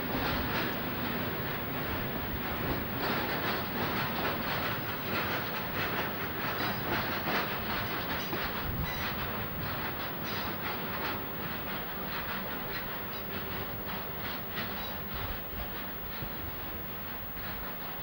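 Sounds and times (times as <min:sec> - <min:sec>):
freight train wheels clattering: 0:00.0 - 0:18.0.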